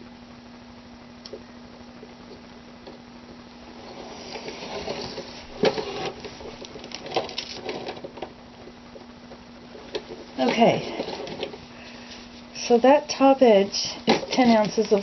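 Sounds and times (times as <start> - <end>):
steady low hum: 0.0 - 15.0
masking tape rustling and crinkling: 2.0 - 15.0.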